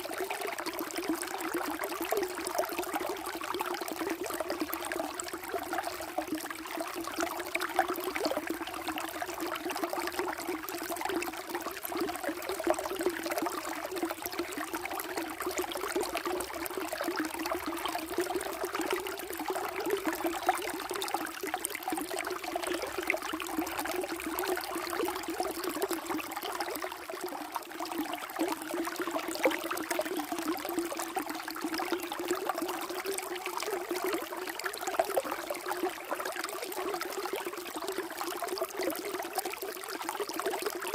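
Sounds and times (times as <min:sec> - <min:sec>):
water flowing in a stream: 0:00.0 - 0:40.9.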